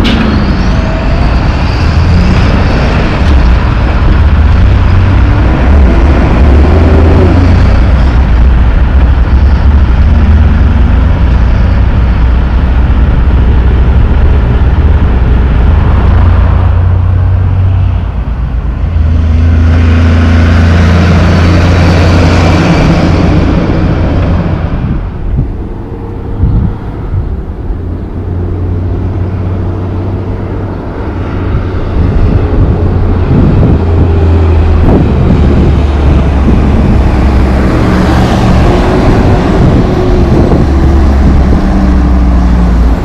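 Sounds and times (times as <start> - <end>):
traffic: 0.0 - 43.0
truck diesel engines: 0.0 - 43.0.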